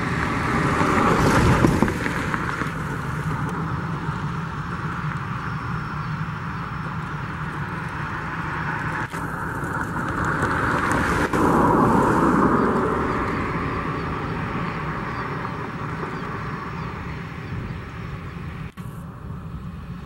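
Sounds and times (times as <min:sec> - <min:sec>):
jet engines taxiing: 0:00.0 - 0:20.0.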